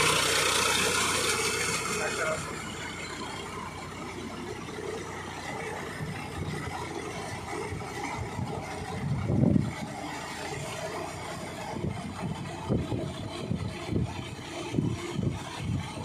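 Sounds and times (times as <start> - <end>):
rotavator churning through mud: 0.0 - 16.0
tractor diesel engine under load: 0.0 - 16.0.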